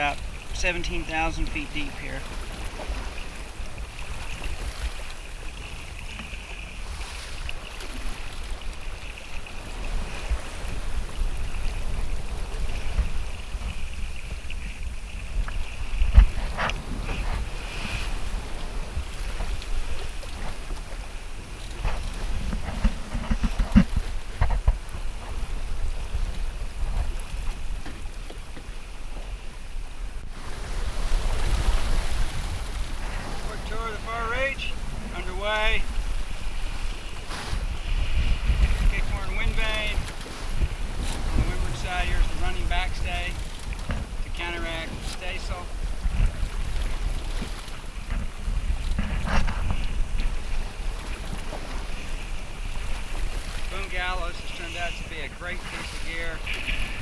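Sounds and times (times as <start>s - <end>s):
rushing sea water: 0.0s - 57.0s
wind buffeting microphone: 0.0s - 57.0s.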